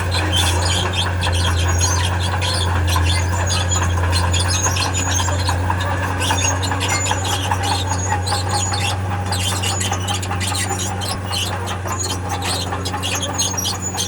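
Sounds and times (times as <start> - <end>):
crawler tracks squealing and clanking: 0.0 - 14.0
diesel engine hum: 0.0 - 14.0.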